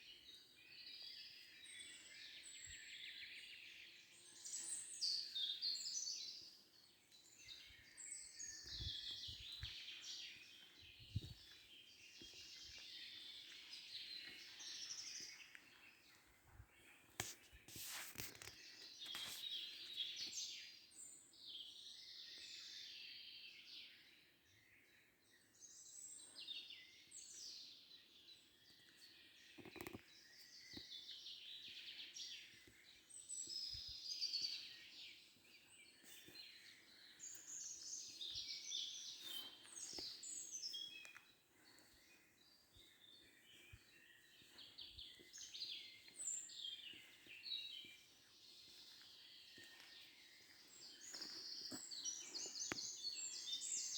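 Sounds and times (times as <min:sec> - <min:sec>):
songbirds singing and chirping: 0:00.0 - 0:53.9.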